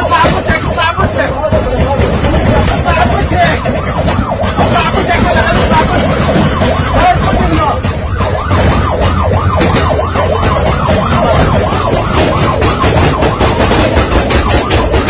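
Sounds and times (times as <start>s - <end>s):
emergency siren yelp: 0.0s - 15.0s
sharp cracks: 0.0s - 15.0s.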